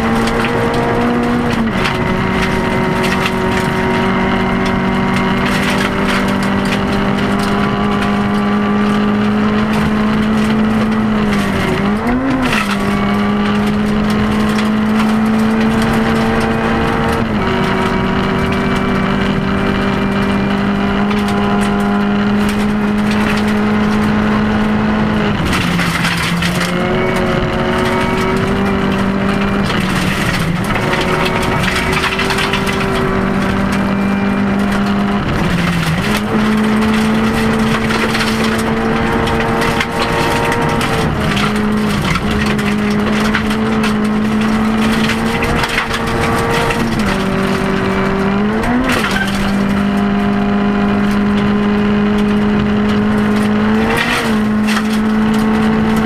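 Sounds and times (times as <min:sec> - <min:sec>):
gravel rattling against car underside: 0:00.0 - 0:56.0
rally car engine at high revs: 0:00.0 - 0:56.0.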